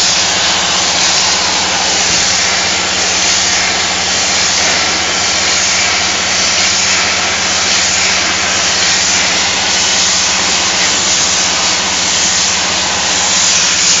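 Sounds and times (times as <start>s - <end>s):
loud steady hiss: 0.0s - 14.0s.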